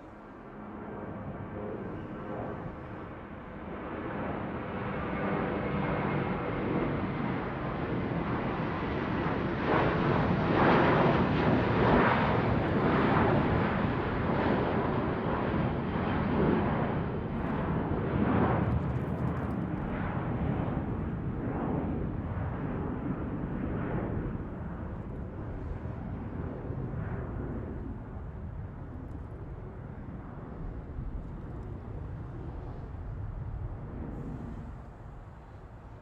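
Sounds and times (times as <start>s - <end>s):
airplane flying overhead: 0.0s - 36.0s.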